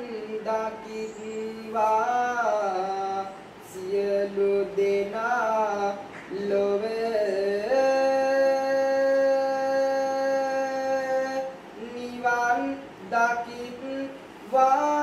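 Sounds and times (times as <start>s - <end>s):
person chanting unaccompanied: 0.0s - 15.0s.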